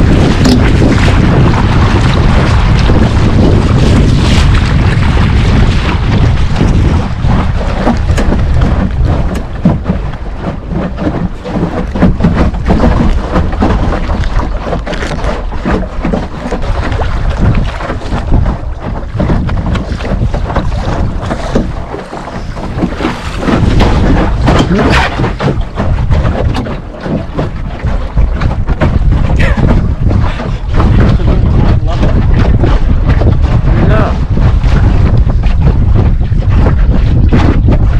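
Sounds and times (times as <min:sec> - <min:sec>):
water splashing against hull: 0:00.0 - 0:37.9
wind noise on microphone: 0:00.0 - 0:37.9.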